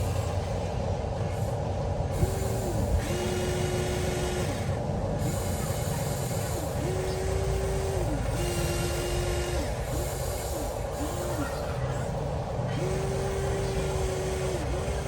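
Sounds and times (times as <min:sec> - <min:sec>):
steady rumbling noise: 0:00.0 - 0:15.0
toy electric motors whining: 0:02.1 - 0:15.0.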